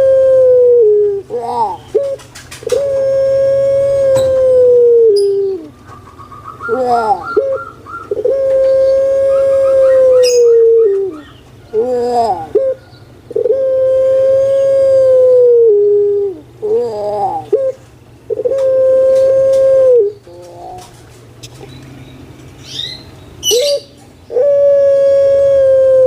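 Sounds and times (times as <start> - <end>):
dove cooing: 0.0 - 21.8, 22.7 - 26.0.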